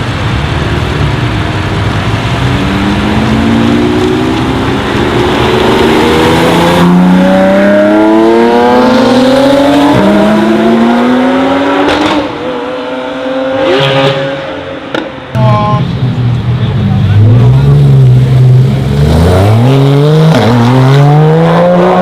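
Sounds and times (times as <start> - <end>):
car engine accelerating hard: 0.0 - 15.0, 16.5 - 22.0.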